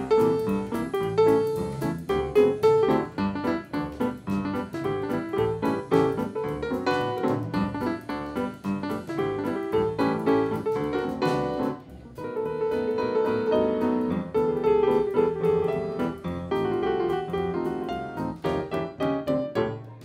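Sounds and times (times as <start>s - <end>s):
jazz blues piano: 0.0s - 20.0s.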